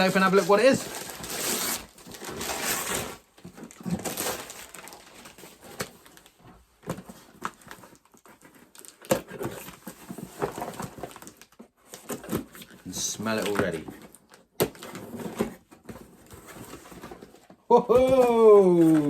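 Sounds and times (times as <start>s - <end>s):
cardboard rustling and scraping: 0.0s - 17.6s.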